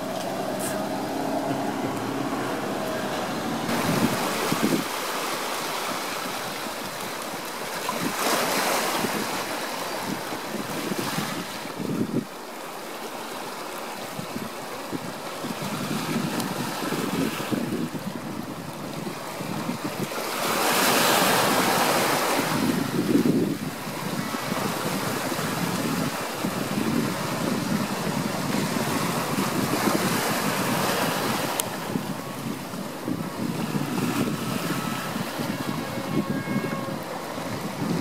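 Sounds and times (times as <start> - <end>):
ocean surf washing in: 0.0 - 38.0
wind: 0.0 - 38.0.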